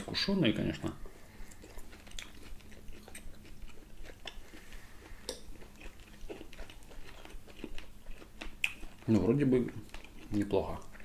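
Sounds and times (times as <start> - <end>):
chewing steak: 0.5 - 11.0.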